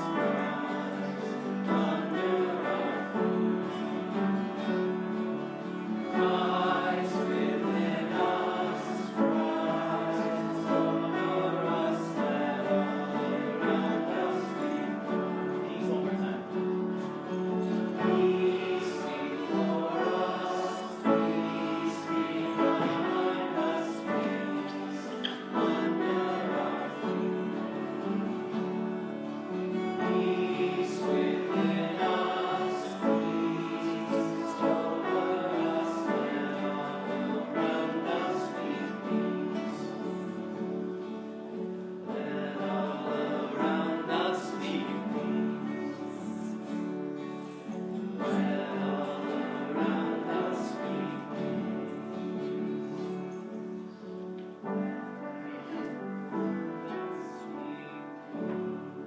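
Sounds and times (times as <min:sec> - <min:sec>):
congregation singing: 0:00.0 - 0:59.0
instrumental accompaniment: 0:00.0 - 0:59.0.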